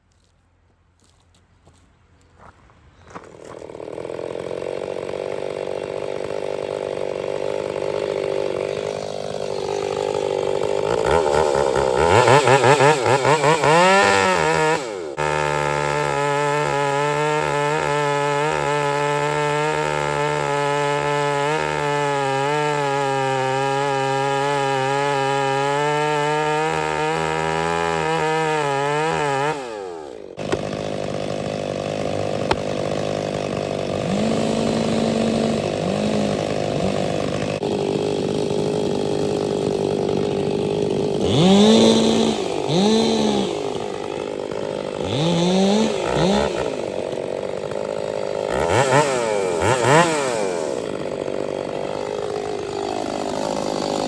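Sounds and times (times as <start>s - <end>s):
chainsaw cutting wood: 3.1s - 54.0s.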